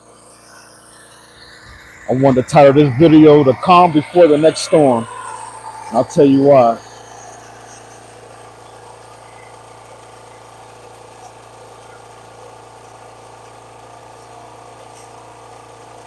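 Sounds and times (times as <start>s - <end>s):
generator engine humming: 0.0s - 16.0s.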